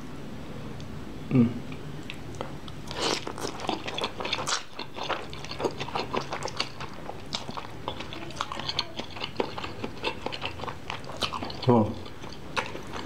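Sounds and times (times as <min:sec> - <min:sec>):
wet chewing mouth noises: 0:02.0 - 0:13.0.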